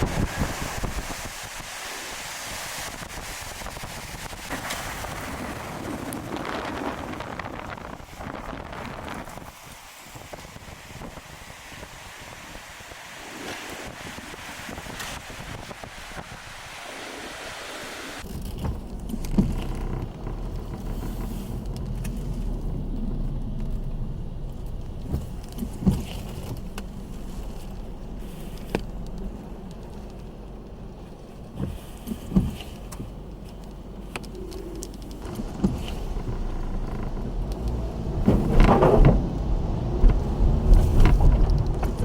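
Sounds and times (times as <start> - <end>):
wind-driven rain hiss: 0.0 - 18.3, 23.8 - 42.0
vehicle low rumble: 2.8 - 12.8, 18.2 - 42.0.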